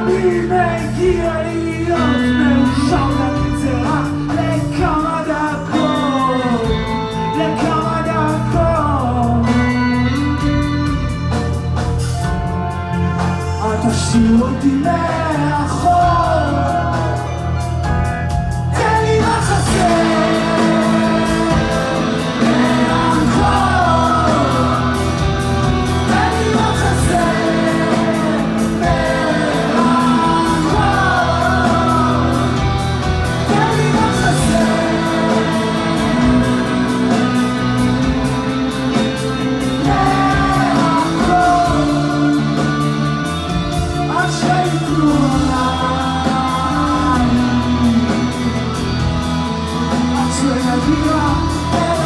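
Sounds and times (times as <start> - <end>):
person singing: 0.0 - 11.4, 12.2 - 52.0
drums: 0.0 - 52.0
electric guitars: 0.0 - 52.0
keyboard: 0.0 - 52.0.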